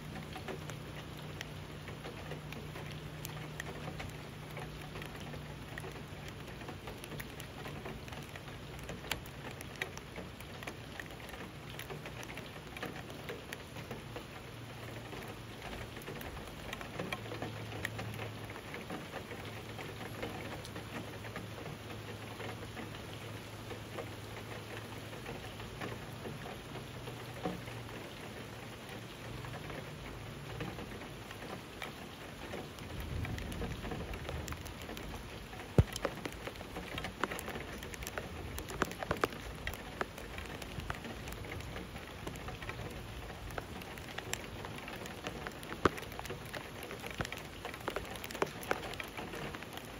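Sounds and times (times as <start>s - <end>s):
raindrop ticks: 0.0s - 49.9s
steady rain hissing: 0.0s - 49.9s.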